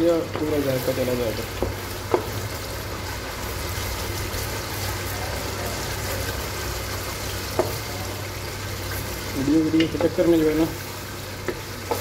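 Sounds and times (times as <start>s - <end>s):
masala sizzling and bubbling: 0.0s - 12.0s.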